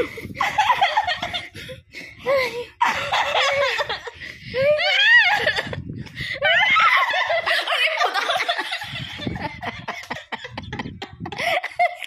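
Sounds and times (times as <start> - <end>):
person laughing and giggling: 0.0 - 12.0.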